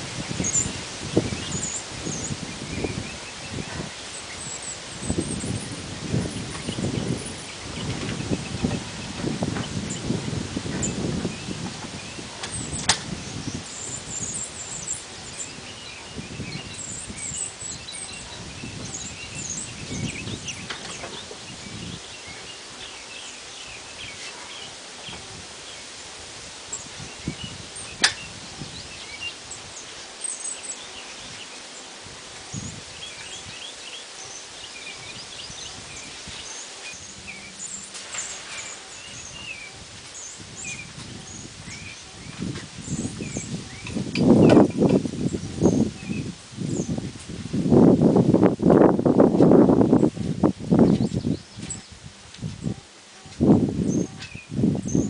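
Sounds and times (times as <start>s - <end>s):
small songbirds chirping: 0.0s - 47.9s, 49.8s - 55.0s.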